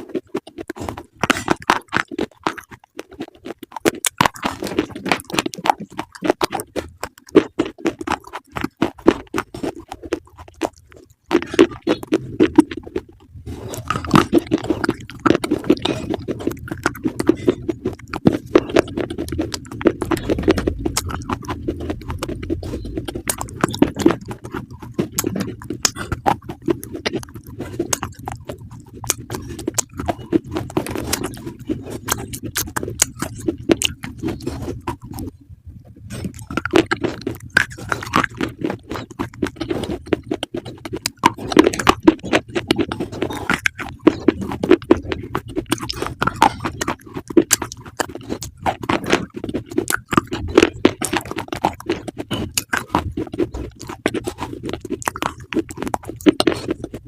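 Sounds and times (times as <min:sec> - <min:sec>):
crunchy food being chewed: 0:00.0 - 0:57.0.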